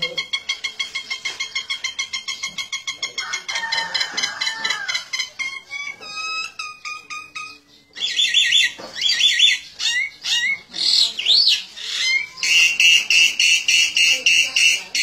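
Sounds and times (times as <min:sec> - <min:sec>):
bird chattering calls: 0:00.0 - 0:15.0.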